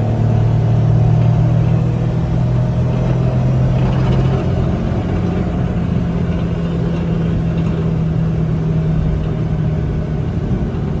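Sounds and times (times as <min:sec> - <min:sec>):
road rumble: 0:00.0 - 0:11.0
truck engine running: 0:00.0 - 0:11.0.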